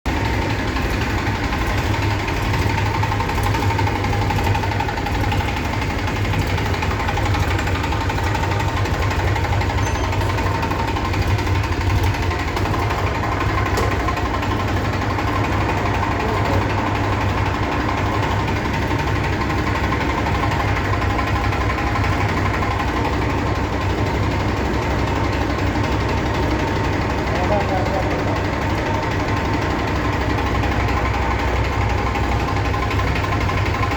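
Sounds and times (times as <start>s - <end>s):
tractor engine idling: 0.1s - 33.9s.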